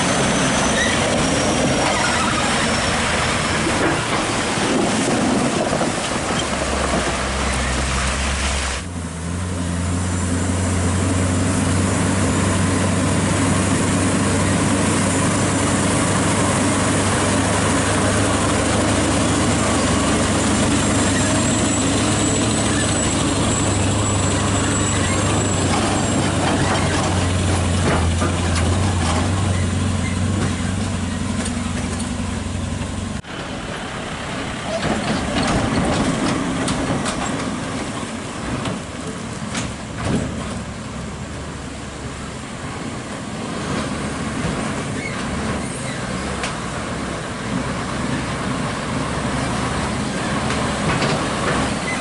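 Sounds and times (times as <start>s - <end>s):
truck diesel engine drone: 0.0s - 52.0s
tyre and road noise: 0.0s - 52.0s.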